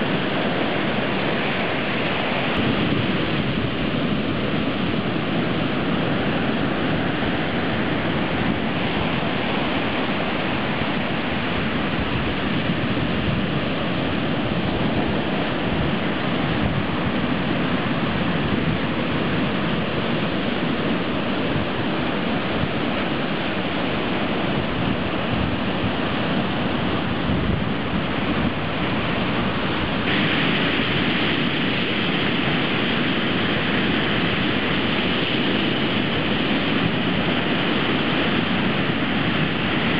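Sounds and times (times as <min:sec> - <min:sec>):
ocean waves crashing: 0:00.0 - 0:39.9.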